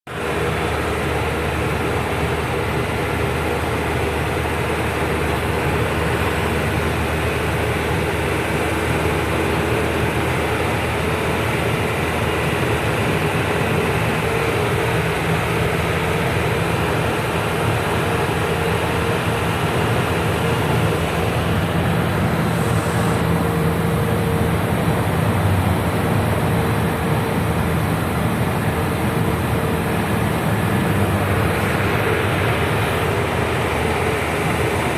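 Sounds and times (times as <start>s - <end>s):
road and tyre noise: 0.1s - 34.9s
truck engine running: 0.1s - 34.9s.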